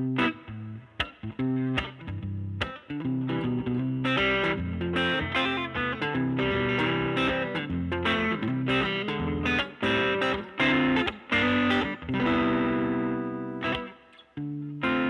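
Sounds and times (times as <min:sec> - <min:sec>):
distorted electric guitar chords and riffs: 0:00.0 - 0:15.0.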